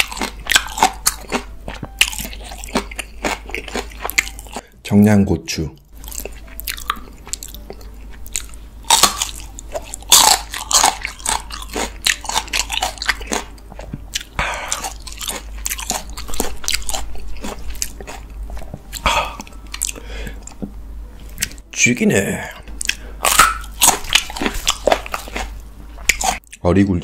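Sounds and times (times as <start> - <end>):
crunchy chewing of chili pepper: 0.0 - 4.7, 6.0 - 20.6, 22.5 - 26.6.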